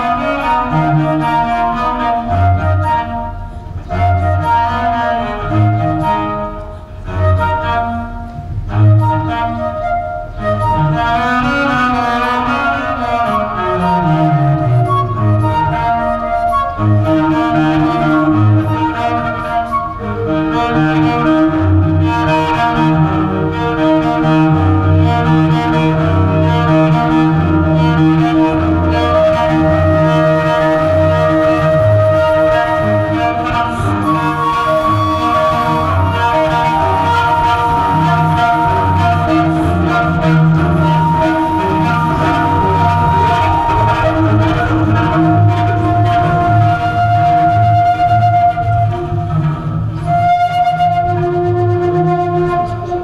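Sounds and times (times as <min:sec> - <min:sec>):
bowed viola: 0:00.0 - 0:53.0
flute melody: 0:00.0 - 0:53.0.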